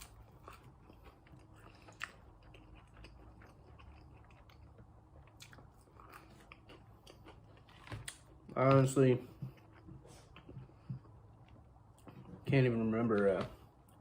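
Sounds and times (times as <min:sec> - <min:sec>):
chewing with crunches: 0:00.0 - 0:14.0.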